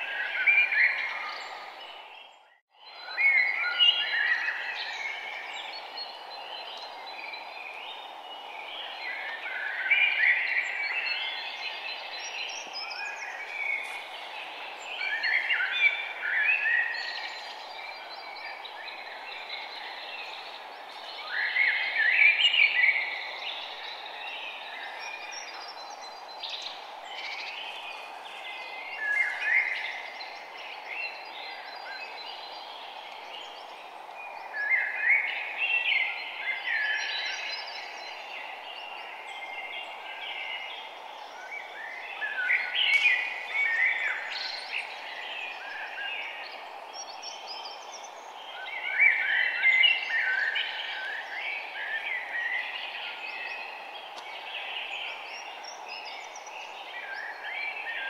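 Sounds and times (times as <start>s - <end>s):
birds chirping and singing: 0.0s - 58.0s
steady background hiss: 3.1s - 58.0s.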